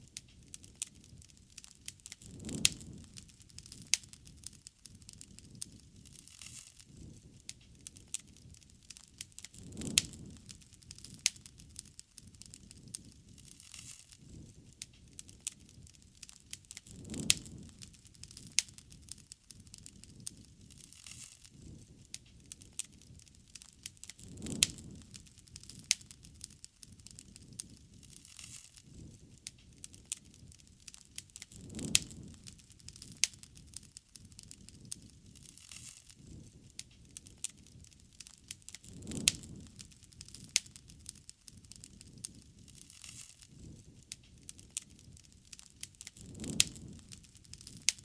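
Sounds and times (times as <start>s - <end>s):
campfire crackling and popping: 0.0s - 48.0s
low rumble of flames: 0.0s - 48.0s.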